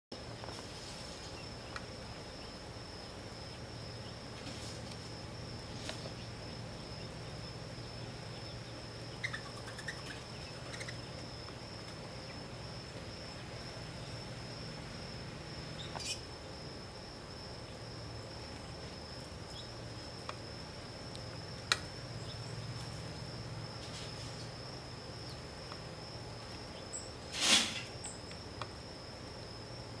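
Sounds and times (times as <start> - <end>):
insects trilling: 0.2 - 30.0.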